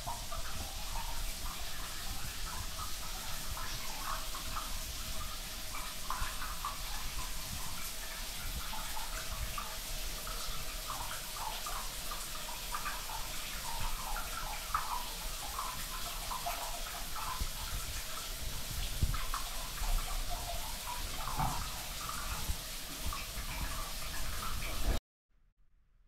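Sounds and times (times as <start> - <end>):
shower water splashing on tiles: 0.0 - 25.0.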